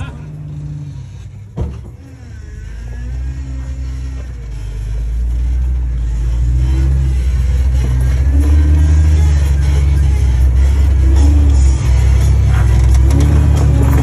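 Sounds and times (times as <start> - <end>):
engine working under load: 0.0 - 14.0.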